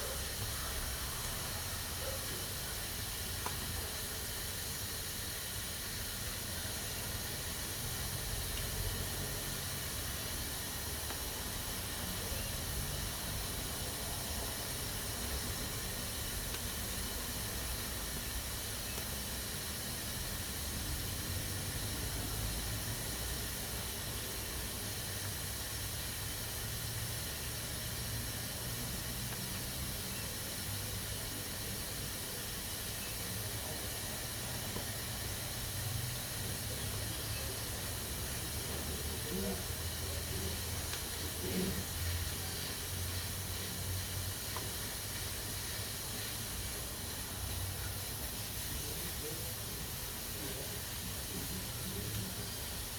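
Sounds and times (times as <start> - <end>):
pressure cooker venting steam: 0.0 - 52.9.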